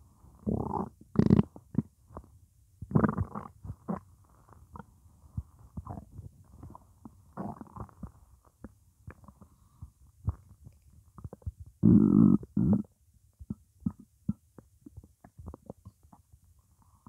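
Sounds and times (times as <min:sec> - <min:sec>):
stomach gurgling: 0:00.4 - 0:17.0.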